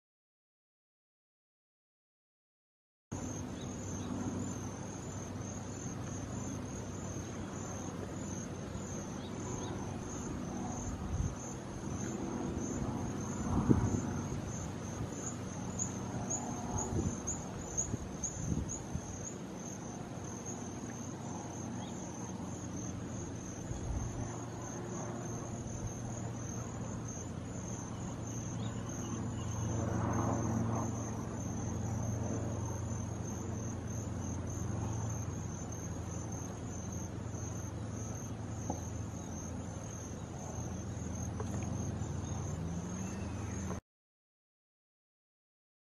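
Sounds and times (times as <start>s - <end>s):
insects chirring: 3.2s - 43.8s.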